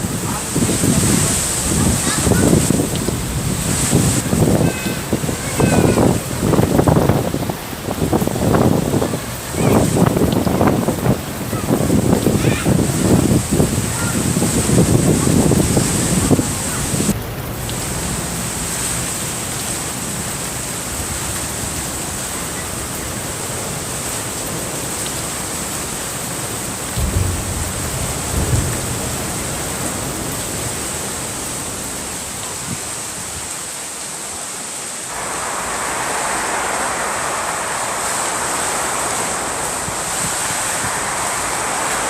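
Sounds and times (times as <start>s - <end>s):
strong wind rushing: 0.0s - 24.9s, 25.7s - 33.5s, 35.1s - 42.0s
wind buffeting microphone: 0.0s - 33.6s, 35.1s - 42.0s.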